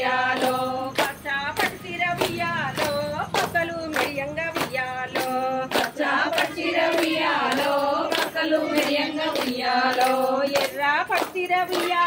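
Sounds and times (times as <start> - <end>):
hand claps: 0.0 - 12.0
women singing folk song: 0.0 - 12.0.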